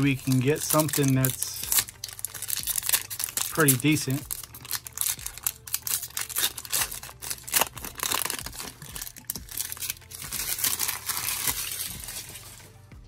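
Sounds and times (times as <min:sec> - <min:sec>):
foil wrapper tearing and crinkling: 0:00.0 - 0:12.6.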